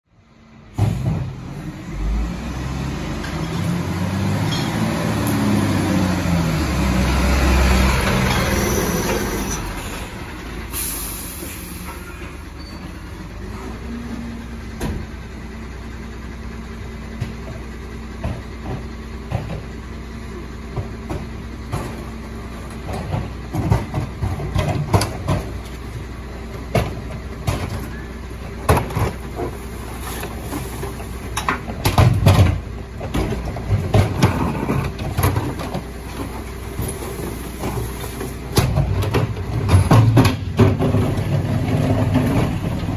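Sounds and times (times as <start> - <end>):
diesel truck engine: 0.0 - 42.9
bins clanking against hopper: 3.0 - 15.2, 17.1 - 42.9.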